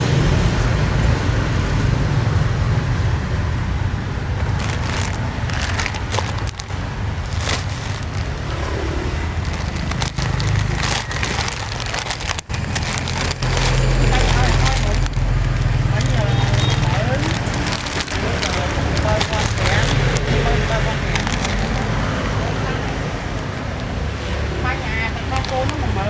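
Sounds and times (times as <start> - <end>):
low outdoor rumble: 1.9 - 26.0
clicks and crackles: 4.4 - 26.0.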